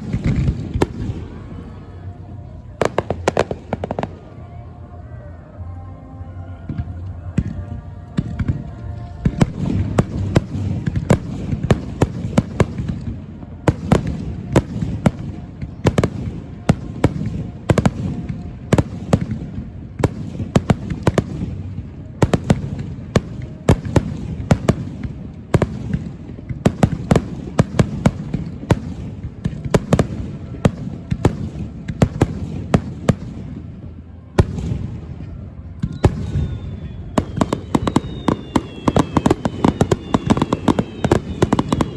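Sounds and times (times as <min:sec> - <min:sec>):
fireworks sharp cracks: 0:00.0 - 0:41.9
low rumble of fireworks booms: 0:00.0 - 0:41.9.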